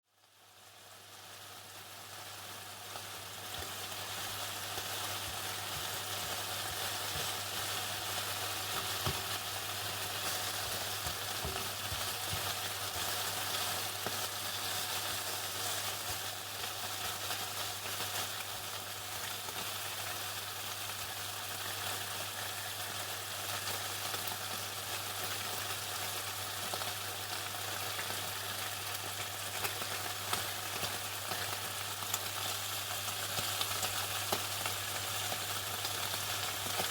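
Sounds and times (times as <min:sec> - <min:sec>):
chicken frying in hot oil: 0:00.0 - 0:36.9.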